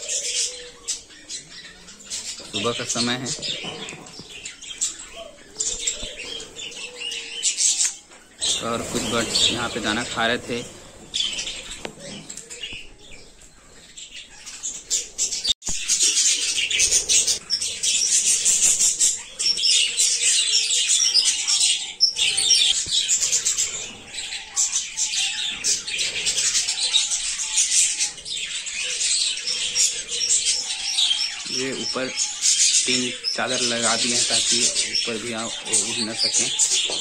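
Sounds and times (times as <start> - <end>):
budgerigars chattering and chirping: 0.0 - 37.0.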